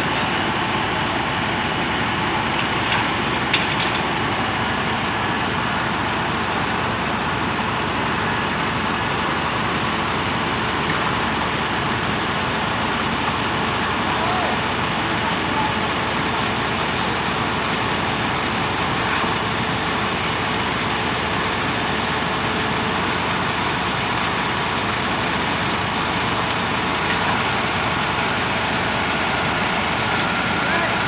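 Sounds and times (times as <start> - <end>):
truck engine running steadily: 0.0 - 31.0.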